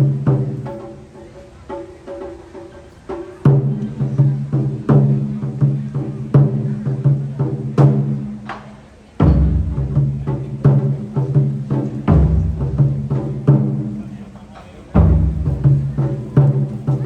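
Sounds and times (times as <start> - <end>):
taiko drums played in rhythm: 0.0 - 17.0.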